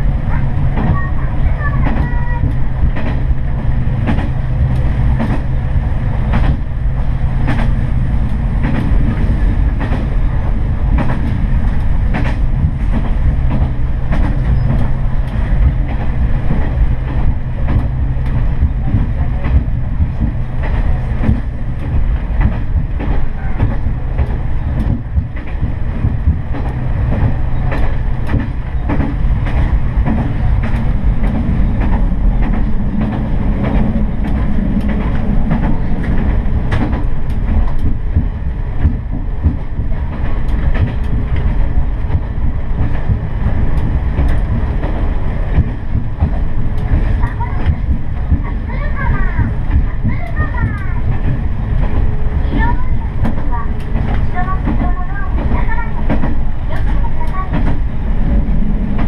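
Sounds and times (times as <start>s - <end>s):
train wheels clicking over rail joints: 0.0s - 59.0s.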